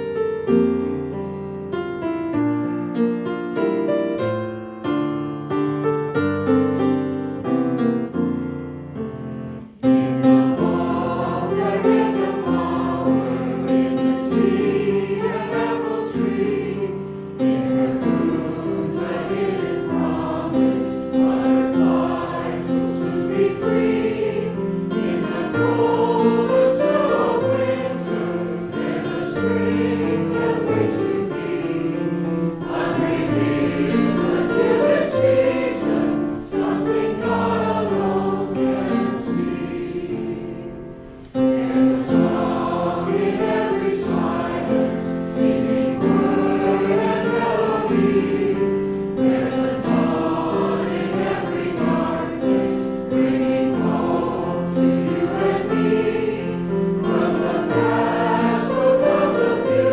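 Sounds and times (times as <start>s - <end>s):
choir singing a hymn: 0.0s - 59.9s
keyboard accompaniment: 0.0s - 59.9s.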